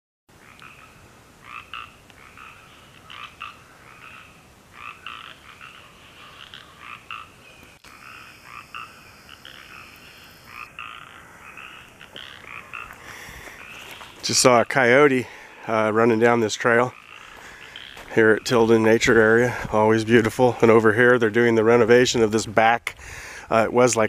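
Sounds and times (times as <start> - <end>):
frogs croaking: 0.3 - 19.7.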